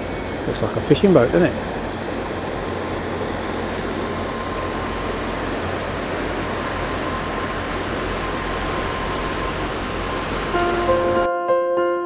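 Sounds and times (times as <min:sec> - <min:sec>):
boat engine running: 0:00.0 - 0:11.3.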